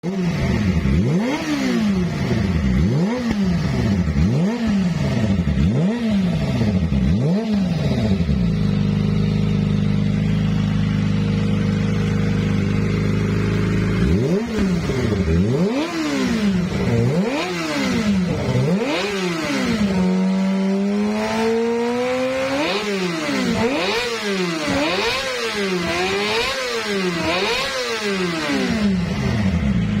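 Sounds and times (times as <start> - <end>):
motorcycle engine idling: 0.0 - 21.4, 23.2 - 30.0
motorcycle engine revving: 0.0 - 30.0.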